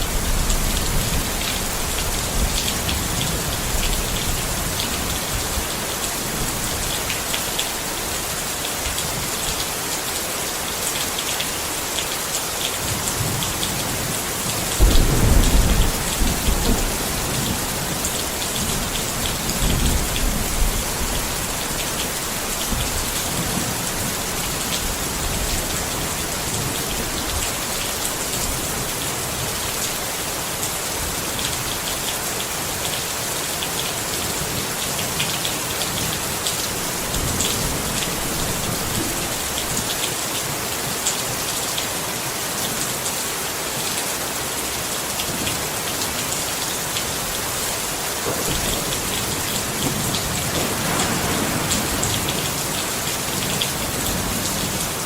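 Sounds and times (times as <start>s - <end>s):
rain pattering on a tent: 0.0s - 55.0s.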